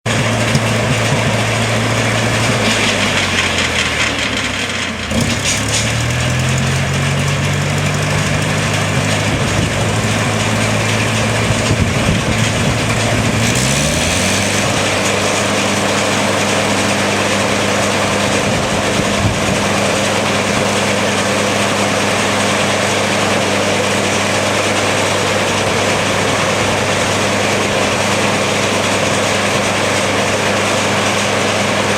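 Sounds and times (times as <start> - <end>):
snowblower engine running: 0.0 - 31.9.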